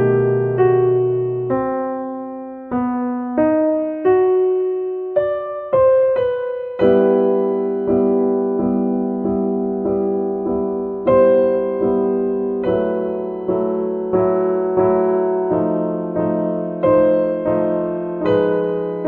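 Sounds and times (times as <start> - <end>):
soft solo piano: 0.0 - 19.0.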